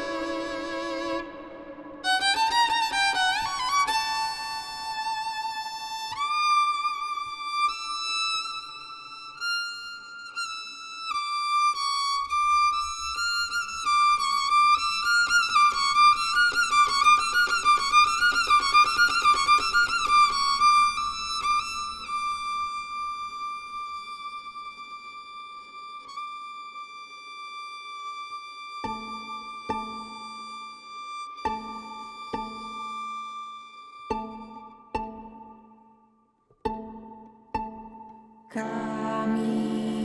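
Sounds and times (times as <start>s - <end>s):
solo violin slow melody: 0.0s - 35.8s, 36.6s - 40.0s.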